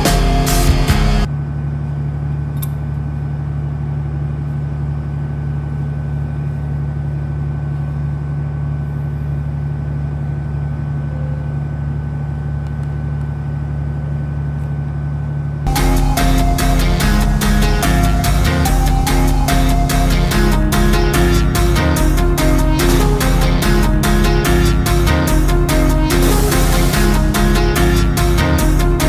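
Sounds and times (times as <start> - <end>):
engine idling: 0.0 - 29.0
thin steady whine: 0.0 - 29.0.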